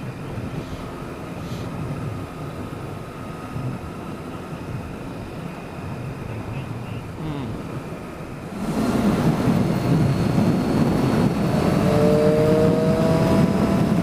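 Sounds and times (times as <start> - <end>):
motorcycle engine and road rumble: 0.0 - 14.0
wind on microphone: 0.0 - 14.0.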